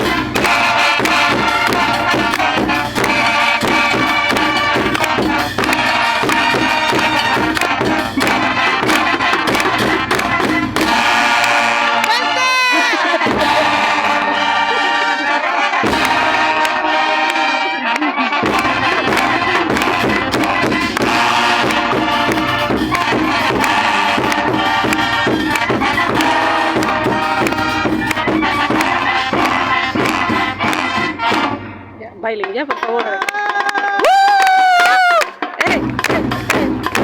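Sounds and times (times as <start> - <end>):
drum beat with bass: 0.0 - 13.9, 18.4 - 31.6, 32.2 - 37.0
wind band music: 0.0 - 32.4.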